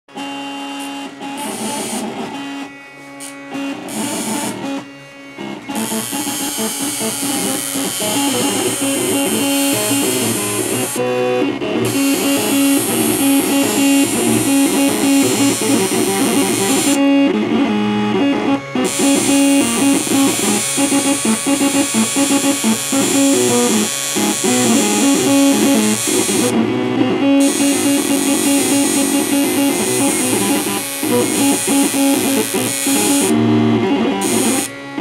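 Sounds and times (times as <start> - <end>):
guitar-led instrumental music: 0.1 - 35.0.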